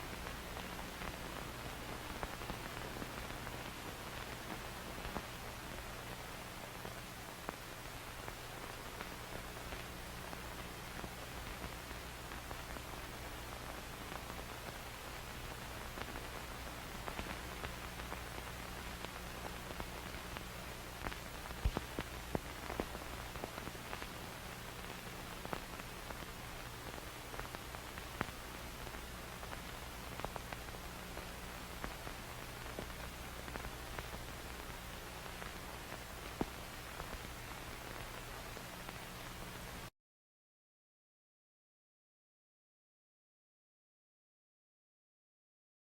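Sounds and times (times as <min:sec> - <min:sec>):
crackles and pops: 0:00.0 - 0:39.9
film static hiss: 0:00.0 - 0:39.9
low steady hum: 0:00.0 - 0:39.9.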